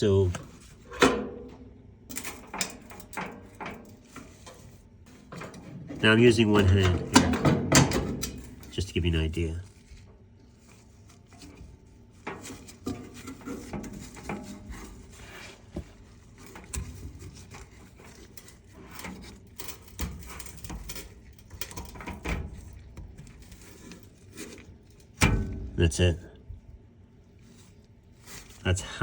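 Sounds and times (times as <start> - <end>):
hands fitting rubber belt on drum: 0.3 - 8.8, 9.6 - 25.8.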